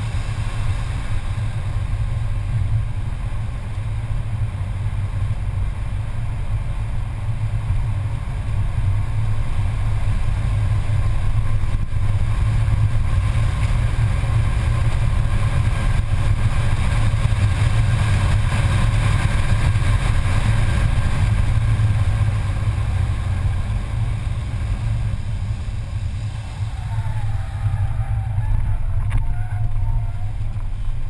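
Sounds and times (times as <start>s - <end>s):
car engine droning in cabin: 0.0s - 31.0s
road and wind noise: 0.0s - 31.0s.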